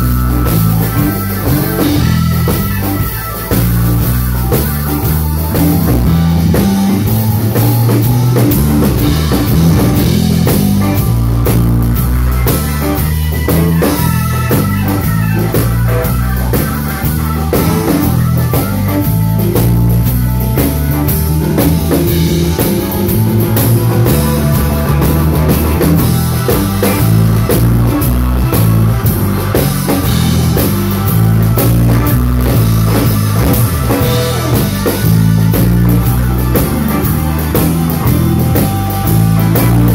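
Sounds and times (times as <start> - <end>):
drum kit: 0.0 - 39.9
electric bass: 0.0 - 39.9
stage piano: 0.0 - 39.9.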